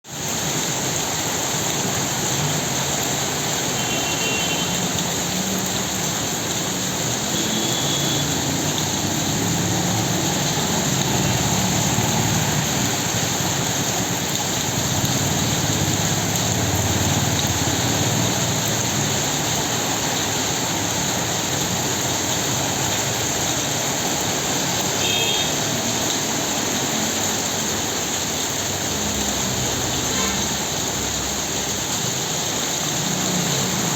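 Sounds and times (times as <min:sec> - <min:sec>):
steady rain falling: 0:00.0 - 0:33.9
traffic on a wet road: 0:00.1 - 0:33.9.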